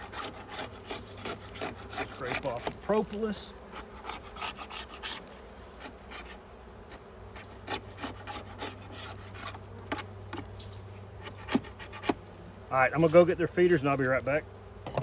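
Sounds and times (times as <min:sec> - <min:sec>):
hive tool scraping: 0:00.0 - 0:15.0
honey bees buzzing: 0:00.0 - 0:15.0.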